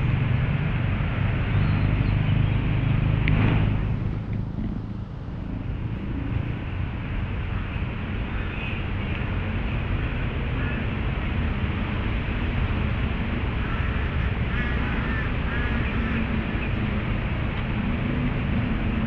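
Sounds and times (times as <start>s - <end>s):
low rumble of motor traffic: 0.0s - 19.0s.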